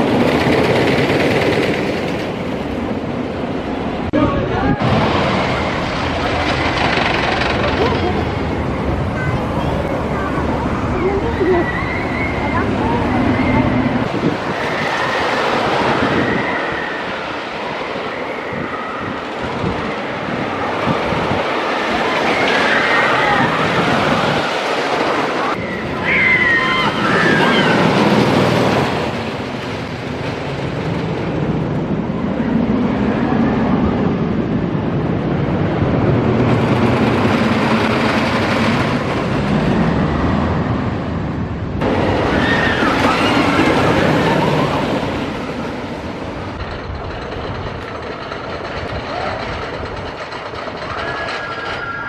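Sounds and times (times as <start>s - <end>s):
rushing air: 0.0s - 50.9s
roller coaster rumbling on wooden track: 0.0s - 52.0s.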